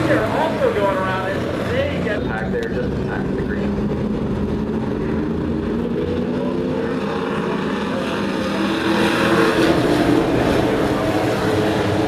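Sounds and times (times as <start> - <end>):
truck engines racing: 0.0 - 12.0.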